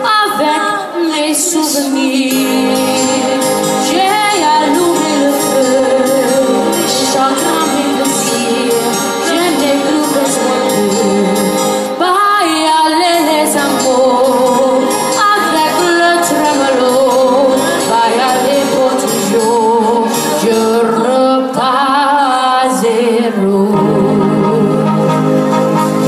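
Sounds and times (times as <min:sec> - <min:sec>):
girl singing with vibrato: 0:00.0 - 0:25.4
instrumental accompaniment: 0:01.4 - 0:21.8, 0:23.6 - 0:26.0.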